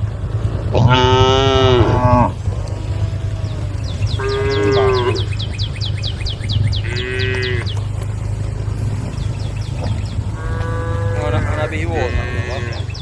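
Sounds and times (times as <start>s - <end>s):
steady low hum: 0.0s - 13.0s
cows mooing: 0.7s - 13.0s.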